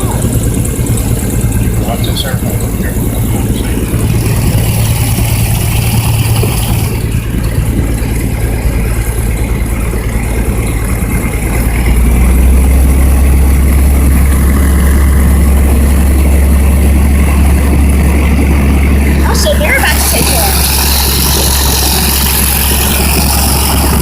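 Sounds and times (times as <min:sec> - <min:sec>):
airplane engine drone in cabin: 0:00.0 - 0:24.0.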